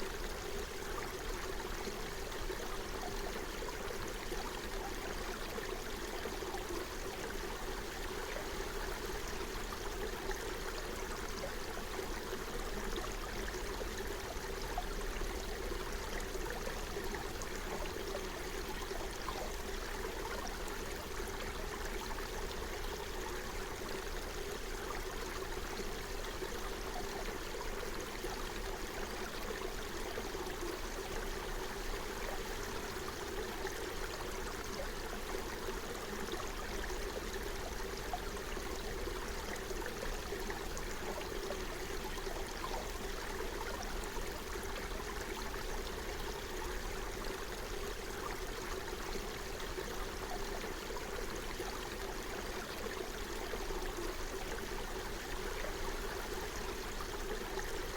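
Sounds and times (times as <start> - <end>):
stream flowing over stones: 0.0 - 57.9.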